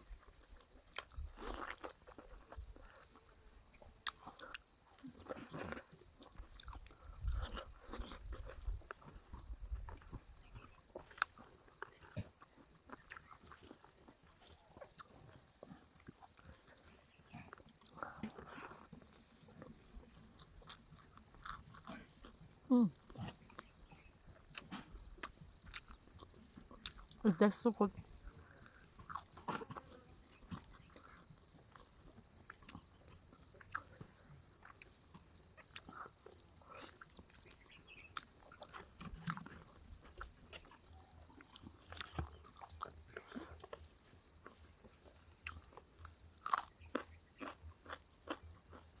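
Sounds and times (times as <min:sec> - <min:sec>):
person chewing: 0:00.1 - 0:27.2, 0:28.1 - 0:49.0.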